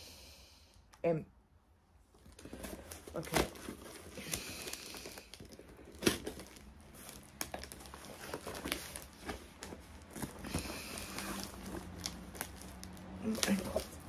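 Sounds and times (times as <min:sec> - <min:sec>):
plastic wrap and tape crinkling: 0:02.1 - 0:14.0.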